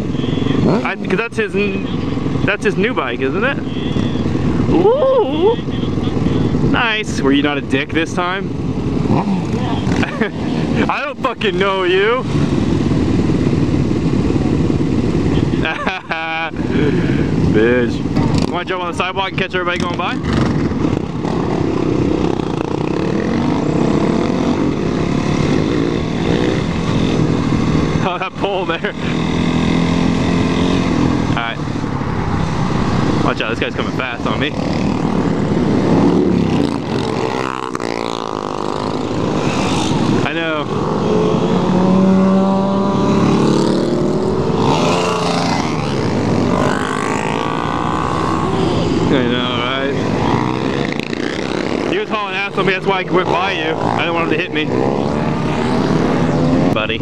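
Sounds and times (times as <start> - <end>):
motorcycle engine accelerating: 8.6 - 18.7, 19.5 - 57.0.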